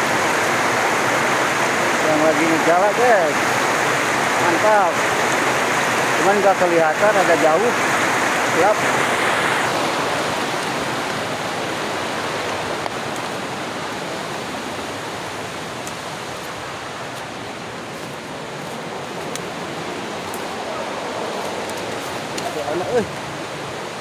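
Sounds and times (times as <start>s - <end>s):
river rapids rushing: 0.0s - 24.0s.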